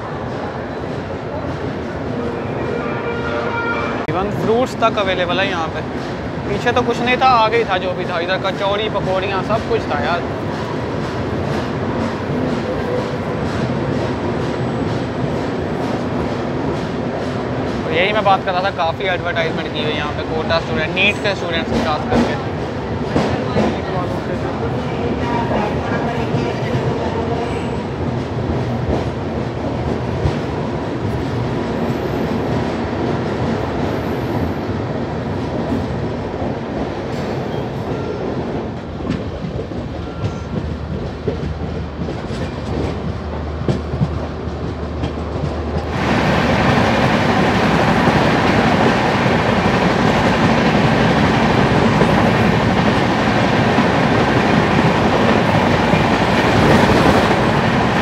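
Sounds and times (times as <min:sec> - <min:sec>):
train wheels clattering over rails: 0:04.3 - 0:58.0.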